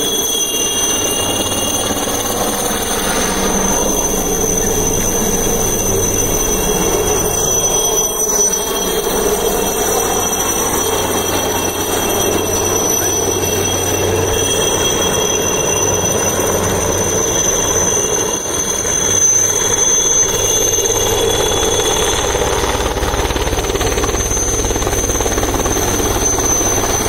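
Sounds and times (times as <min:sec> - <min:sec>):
helicopter turbine whine: 0:00.0 - 0:27.0
rotor and engine rumble: 0:01.5 - 0:17.9, 0:18.8 - 0:27.0.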